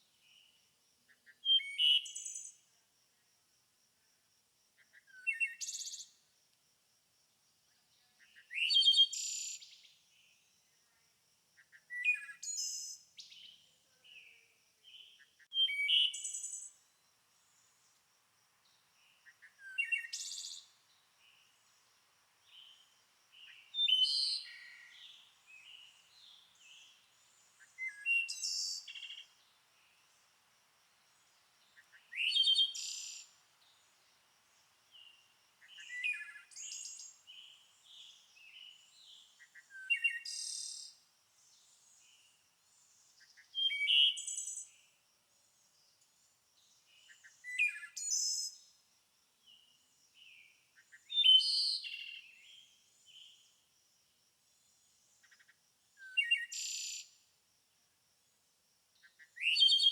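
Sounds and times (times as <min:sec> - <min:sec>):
songbird chirping: 0:00.0 - 0:03.3, 0:04.7 - 0:06.4, 0:07.5 - 0:57.4, 0:58.3 - 0:59.9.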